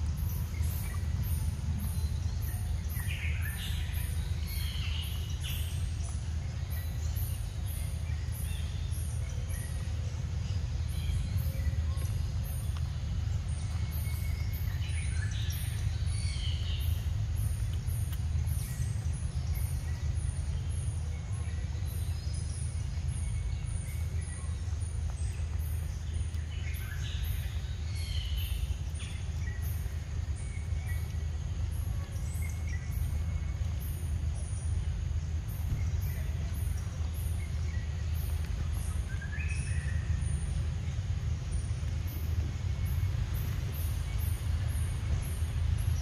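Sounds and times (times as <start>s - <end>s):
birds chirping: 0.0s - 46.0s
low background rumble: 0.0s - 46.0s.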